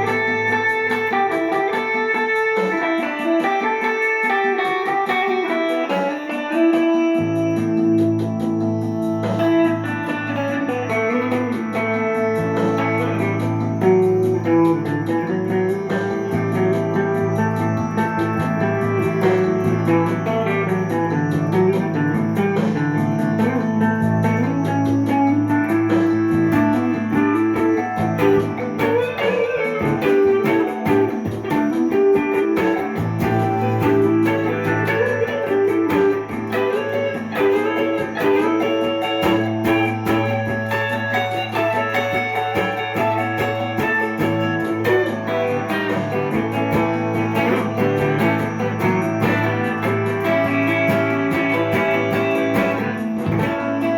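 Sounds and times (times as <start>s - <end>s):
electric guitar jazzy melody: 0.0s - 53.9s.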